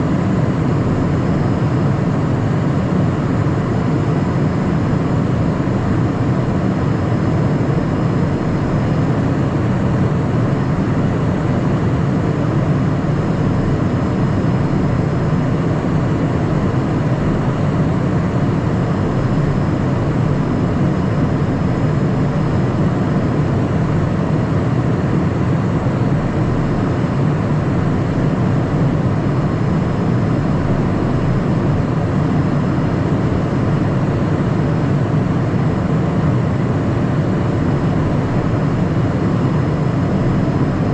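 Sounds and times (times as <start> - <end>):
jet engines humming: 0.0 - 40.9.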